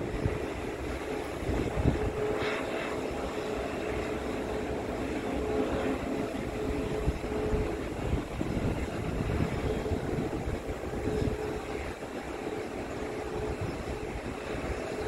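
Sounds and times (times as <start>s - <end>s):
aircraft engine humming: 0.0s - 15.0s
wind on microphone: 0.0s - 15.0s.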